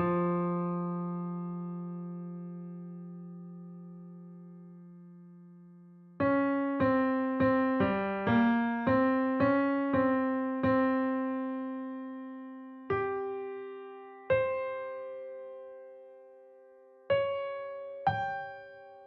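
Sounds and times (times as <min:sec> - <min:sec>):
slow electric piano melody: 0:00.0 - 0:19.0.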